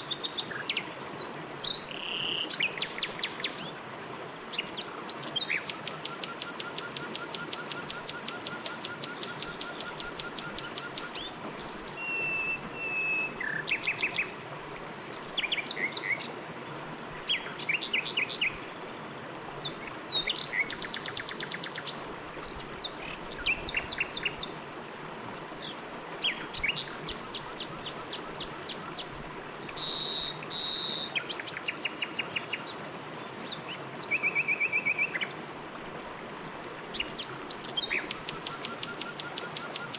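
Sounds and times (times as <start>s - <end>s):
songbirds chirping: 0.0s - 18.9s, 19.6s - 24.6s, 25.3s - 35.5s, 36.8s - 39.9s
flowing river water: 0.0s - 39.9s.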